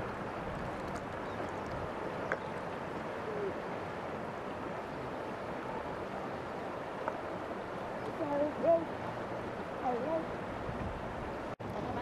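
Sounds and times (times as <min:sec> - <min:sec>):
fast-flowing river water: 0:00.0 - 0:12.0.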